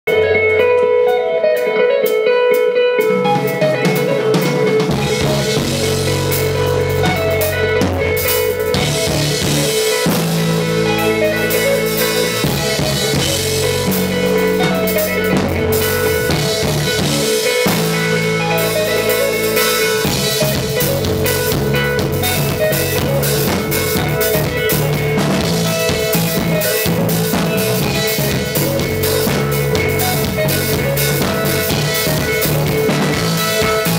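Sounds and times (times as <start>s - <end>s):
bass guitar: 0.0s - 33.9s
electric guitar: 0.0s - 33.9s
drum kit: 0.1s - 33.9s.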